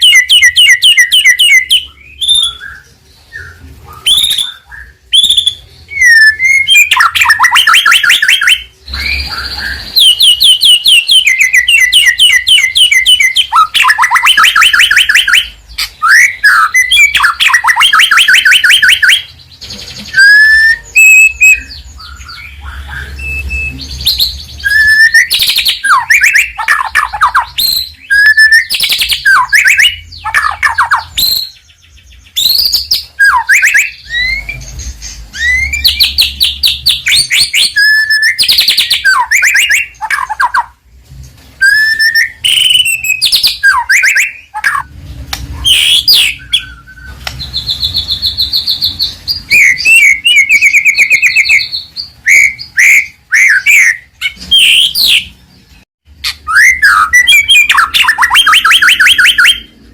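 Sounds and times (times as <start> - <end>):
songbird singing trills and whistles: 0.0 - 40.8, 41.5 - 59.9.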